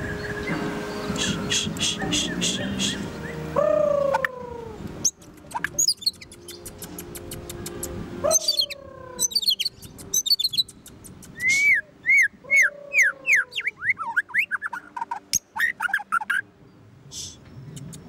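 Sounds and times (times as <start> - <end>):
songbird whistling song: 0.0 - 18.0.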